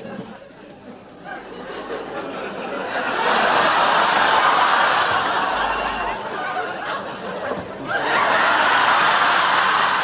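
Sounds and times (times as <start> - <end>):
studio audience laughing: 1.4 - 10.0.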